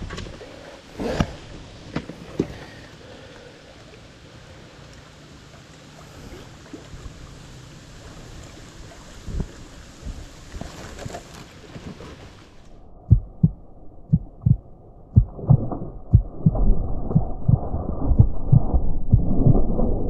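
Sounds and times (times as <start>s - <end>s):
water around a hull: 0.0s - 20.0s.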